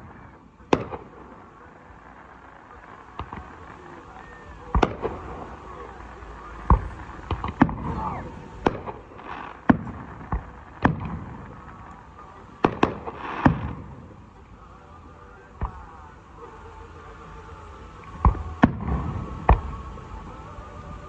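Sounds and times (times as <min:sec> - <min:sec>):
fireworks banging: 0:00.0 - 0:16.8, 0:17.9 - 0:20.9.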